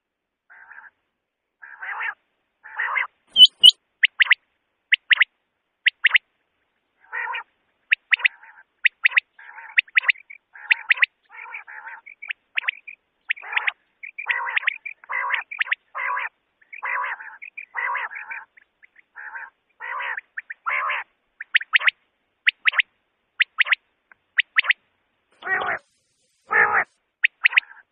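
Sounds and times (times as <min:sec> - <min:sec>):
quail calling: 0:00.5 - 0:01.0, 0:01.6 - 0:06.2, 0:07.0 - 0:24.8, 0:25.4 - 0:27.9.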